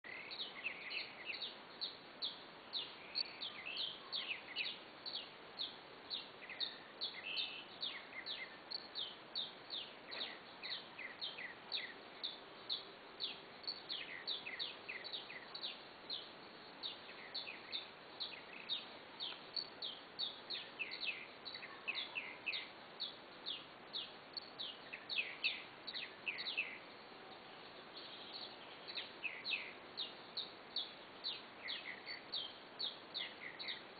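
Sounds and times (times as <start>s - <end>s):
faint steady hiss: 0.0s - 33.9s.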